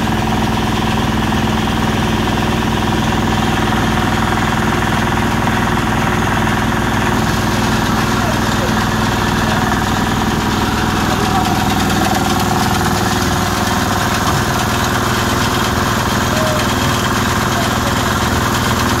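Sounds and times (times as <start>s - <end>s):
engine-driven press droning: 0.0s - 19.0s.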